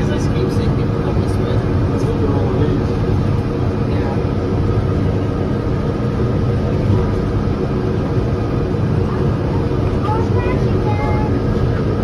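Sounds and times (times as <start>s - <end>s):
transit car rumbling on guideway: 0.0s - 12.0s.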